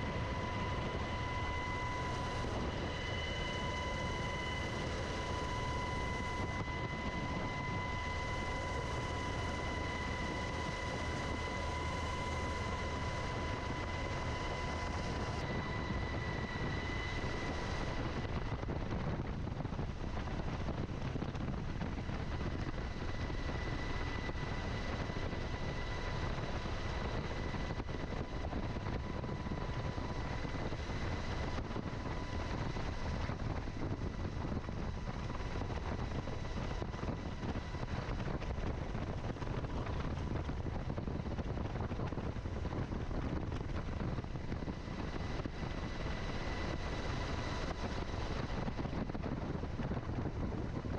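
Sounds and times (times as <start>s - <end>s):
helicopter rotor and engine noise: 0.0s - 50.9s.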